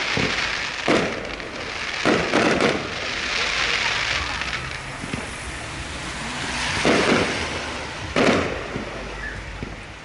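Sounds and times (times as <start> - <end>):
fireworks crackling hiss: 0.0 - 10.0.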